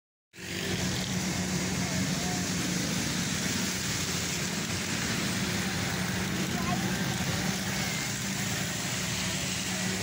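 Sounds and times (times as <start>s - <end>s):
heavy rain on a flooded road: 0.4s - 10.0s
vehicle engines running: 0.4s - 10.0s.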